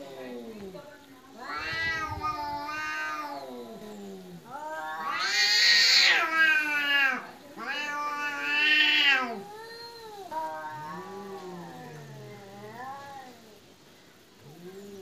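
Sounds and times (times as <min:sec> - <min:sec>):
cats yowling: 0:01.4 - 0:13.6.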